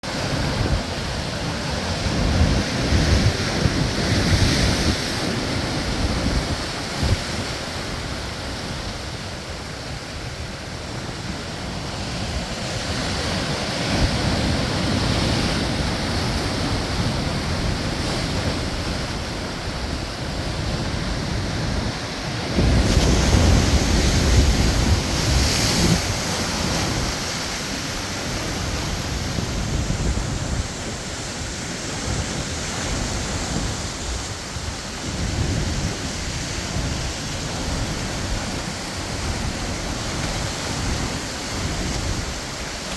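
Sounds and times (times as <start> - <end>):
sea waves breaking on shore: 0.0 - 42.9
wind rumbling on microphone: 0.0 - 42.9.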